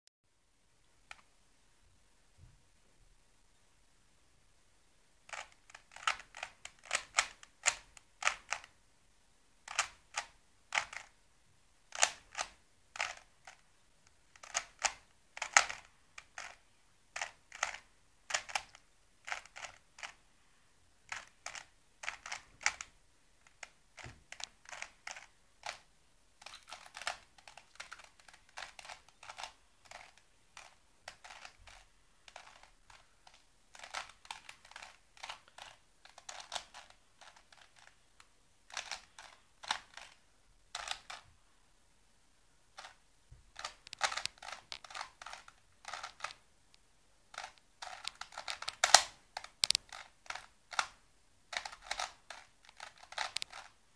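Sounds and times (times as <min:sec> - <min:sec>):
puzzle cube clicking turns: 0:05.3 - 0:08.8, 0:09.6 - 0:11.2, 0:11.9 - 0:13.6, 0:14.3 - 0:20.2, 0:21.1 - 0:41.3, 0:42.7 - 0:46.5, 0:47.3 - 0:53.8.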